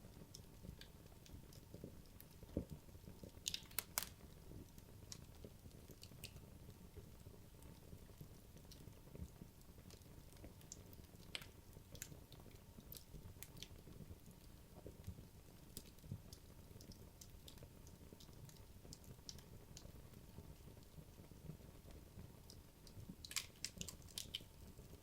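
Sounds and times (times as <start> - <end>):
logs crackling in a fireplace: 0.0 - 25.0.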